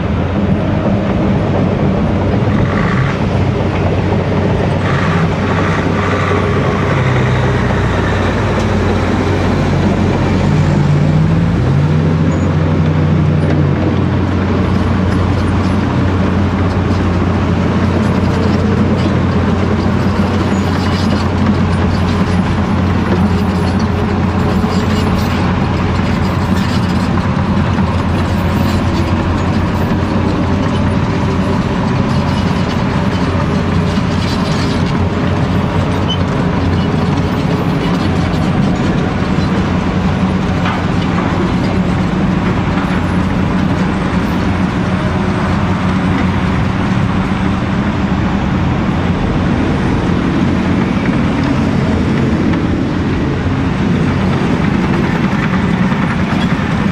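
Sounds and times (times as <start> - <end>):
dump truck driving: 0.0 - 56.9
hydraulic excavator working: 0.0 - 56.9.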